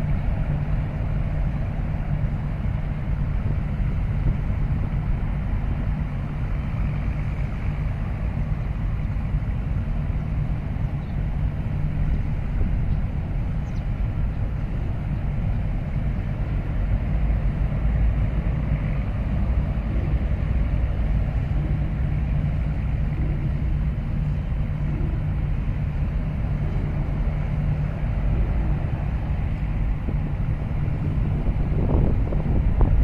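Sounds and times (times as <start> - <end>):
faint constant hum: 0.0 - 33.0
low mechanical rumble: 0.0 - 33.0
wind buffeting microphone: 0.0 - 33.0.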